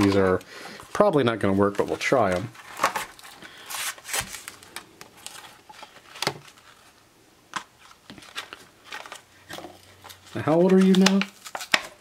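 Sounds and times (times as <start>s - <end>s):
packaging crinkling and clicking: 1.7s - 12.0s.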